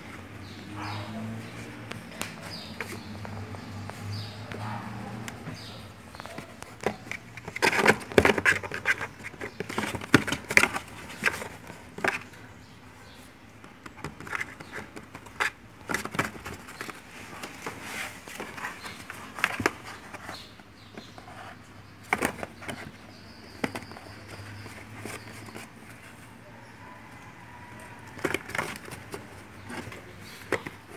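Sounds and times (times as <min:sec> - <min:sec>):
cat claws scratching cardboard: 0:01.5 - 0:12.4, 0:13.7 - 0:26.2, 0:27.8 - 0:30.9.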